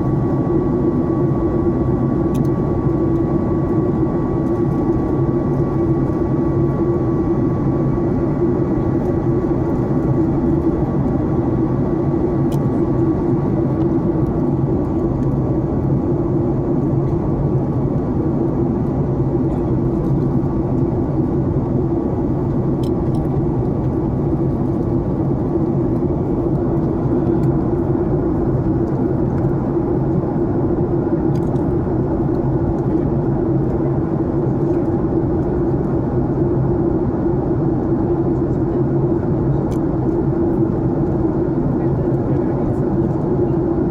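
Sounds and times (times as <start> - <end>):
airliner cabin engine roar: 0.0 - 43.9.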